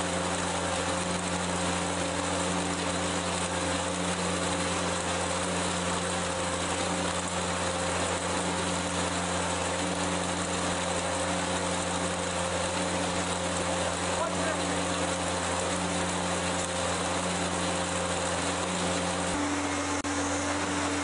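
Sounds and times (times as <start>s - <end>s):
concrete mixer pump running: 0.0s - 21.0s.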